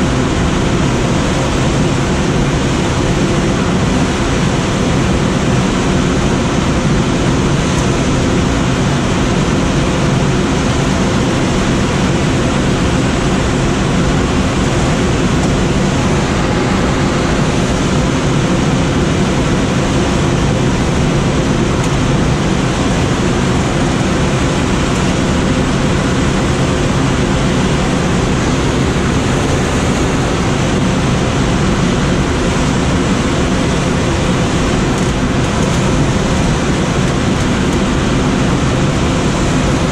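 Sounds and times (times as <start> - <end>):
rushing airflow in glider cockpit: 0.0 - 39.9.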